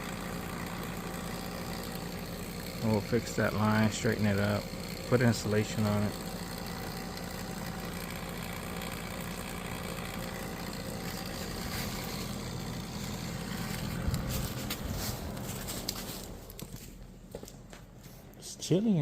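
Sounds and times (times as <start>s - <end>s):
motor humming: 0.0s - 18.8s.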